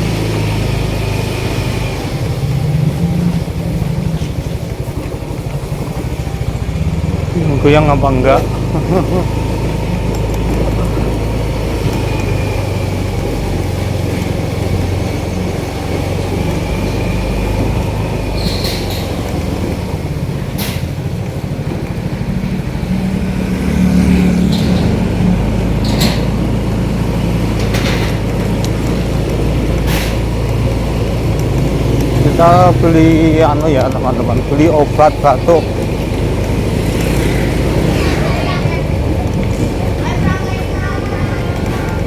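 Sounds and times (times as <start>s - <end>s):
motorcycle engine running: 0.0s - 42.0s
road and wind noise: 0.0s - 42.0s.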